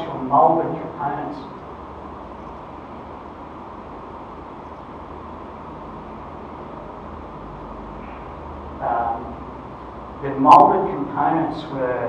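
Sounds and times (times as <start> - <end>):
fan-like hiss: 0.0 - 12.0
low hum: 0.0 - 12.0.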